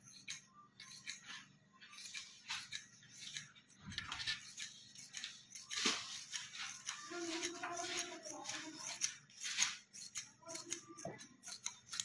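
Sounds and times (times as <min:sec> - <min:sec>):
scissors snipping cloth: 0:00.0 - 0:12.0.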